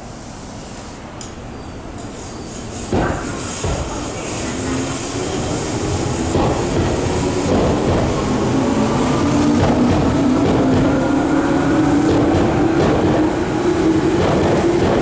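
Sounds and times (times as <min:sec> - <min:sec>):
train wheels knocking on rail joints: 0:02.8 - 0:15.0.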